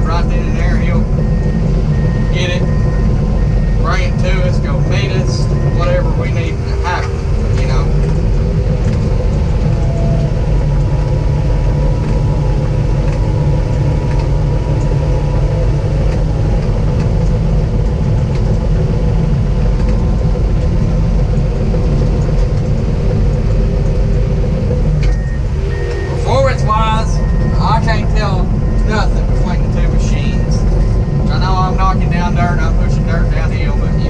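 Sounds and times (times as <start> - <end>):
diesel engine under load: 0.0 - 34.0.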